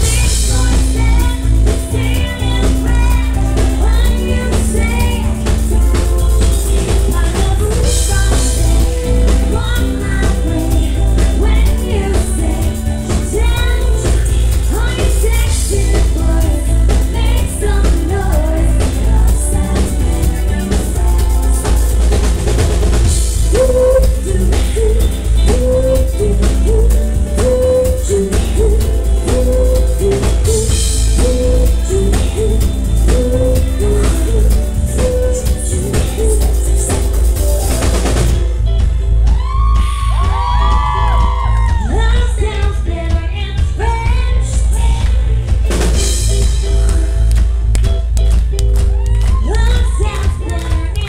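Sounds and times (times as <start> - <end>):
woman singing: 0.0 - 38.5, 39.3 - 47.6, 48.9 - 51.0
live pop band playing: 0.0 - 51.0.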